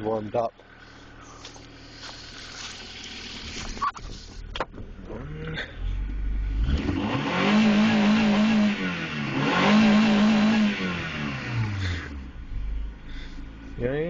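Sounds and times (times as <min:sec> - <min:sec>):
car engine revving: 0:00.6 - 0:13.8.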